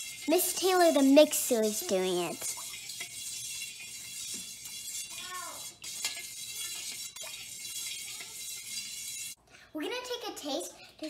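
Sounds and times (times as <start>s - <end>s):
whisk stirring in a metal bowl: 0.0s - 9.4s.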